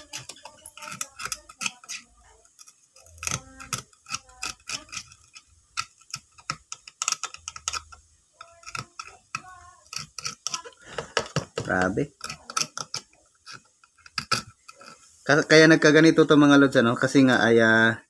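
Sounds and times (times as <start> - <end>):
metal tool scraping circuit board: 0.0 - 16.3.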